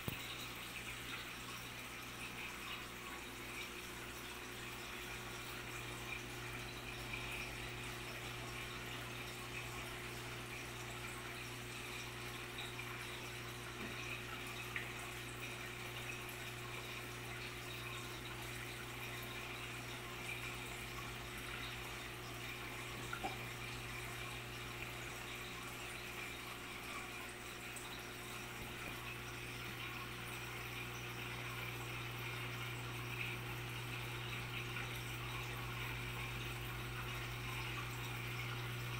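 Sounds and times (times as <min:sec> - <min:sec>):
aquarium water trickling: 0:00.0 - 0:38.9.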